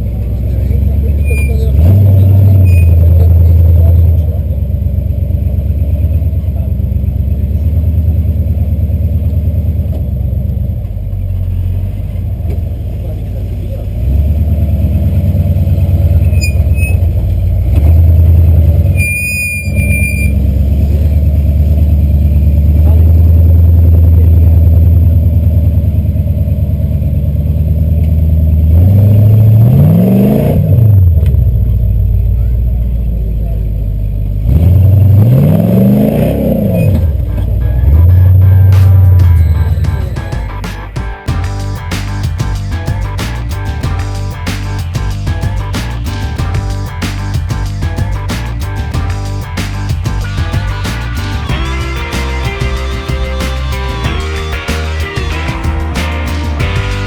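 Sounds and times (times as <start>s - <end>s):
engine deep rumble: 0.0s - 57.0s.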